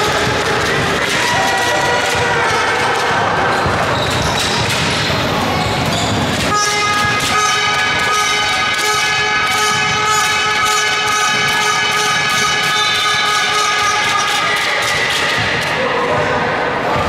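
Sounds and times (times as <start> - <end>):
sports hall noise: 0.0 - 17.0.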